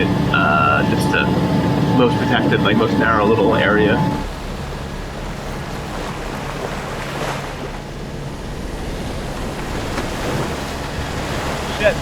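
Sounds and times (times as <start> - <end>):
diesel engine drone: 0.0 - 12.0
strong wind: 0.0 - 12.0
water rushing along hull: 0.0 - 12.0.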